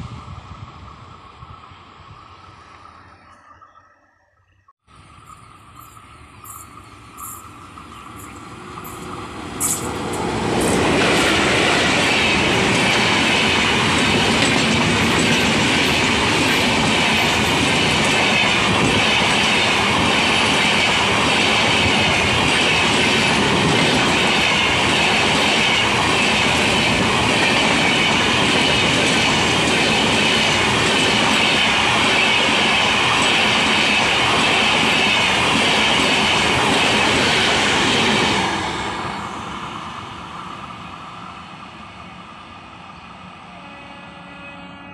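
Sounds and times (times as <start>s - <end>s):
train passing at speed: 0.0s - 4.2s, 4.8s - 44.9s
wheels clickety-clack on rail: 5.0s - 41.9s.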